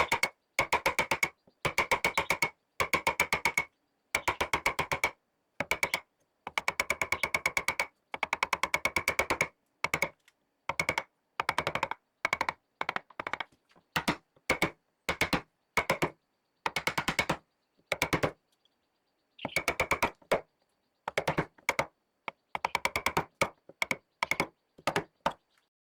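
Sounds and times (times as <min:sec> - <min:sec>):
rapid sharp tapping: 0:00.0 - 0:10.1, 0:10.7 - 0:16.1, 0:16.7 - 0:18.4, 0:19.5 - 0:20.4, 0:21.1 - 0:25.4.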